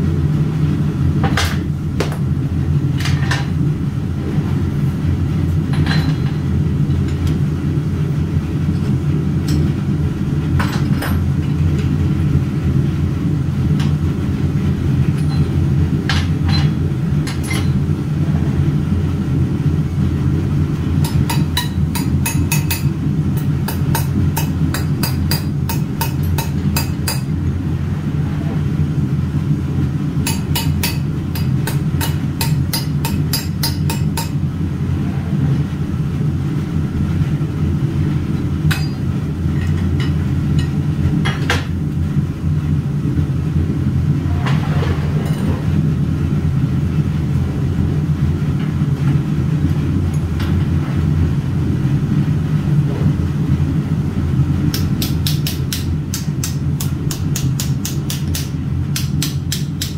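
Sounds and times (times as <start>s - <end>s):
low machine drone: 0.0s - 59.9s.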